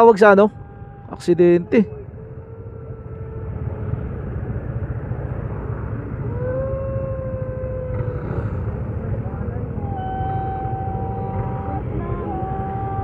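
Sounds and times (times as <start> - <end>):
drawn-out droning tone: 0.0 - 13.0
vehicle engines rumbling: 0.0 - 13.0.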